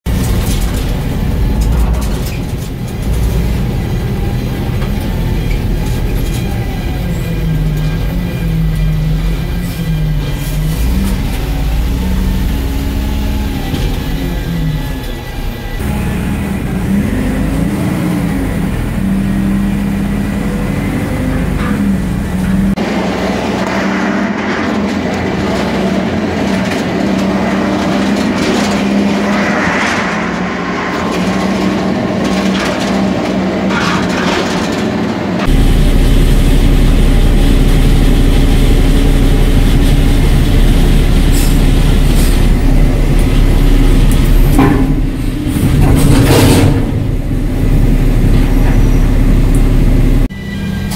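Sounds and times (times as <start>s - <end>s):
trailer knocking and rattling: 0.1s - 17.0s, 21.2s - 50.3s
deep engine sound: 0.1s - 50.9s
diesel engine running: 0.1s - 50.9s.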